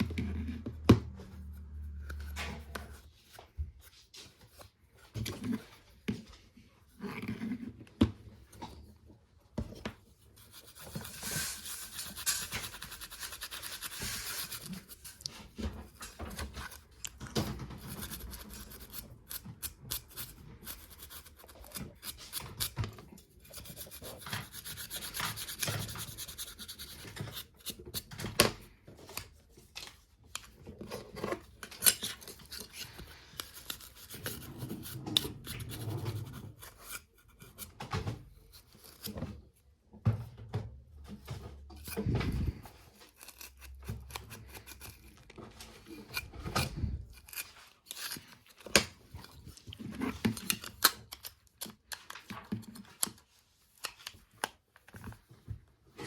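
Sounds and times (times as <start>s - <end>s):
rubbing and scraping on hard object: 0.0s - 39.6s, 41.0s - 54.2s.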